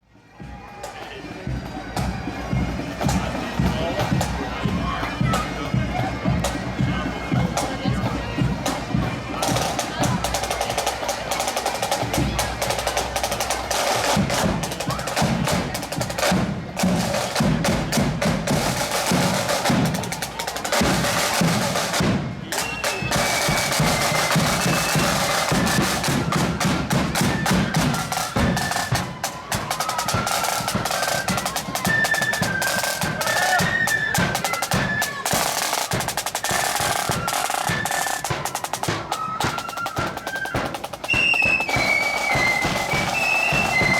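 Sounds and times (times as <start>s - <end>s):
snare drum rolls: 0.4s - 43.9s.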